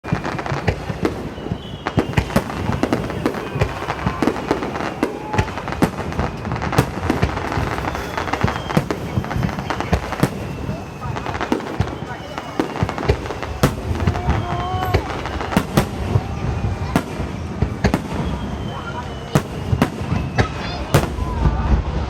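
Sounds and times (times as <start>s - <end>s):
fireworks crackling: 0.0s - 22.0s
firework shells bursting: 0.1s - 21.5s.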